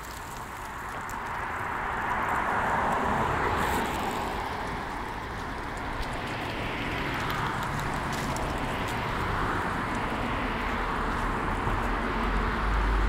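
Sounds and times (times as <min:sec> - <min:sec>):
approaching traffic: 0:00.0 - 0:13.0
car tyre and road noise: 0:00.0 - 0:13.0.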